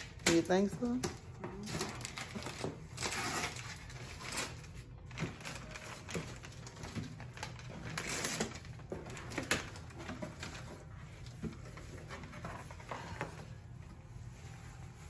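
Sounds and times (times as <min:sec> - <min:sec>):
packing paper rustling: 0:00.0 - 0:15.0.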